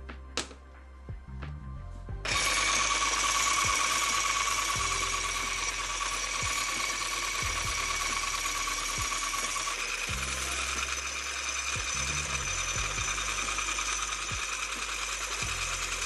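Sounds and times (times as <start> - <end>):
immersion blender whining: 2.3 - 16.0.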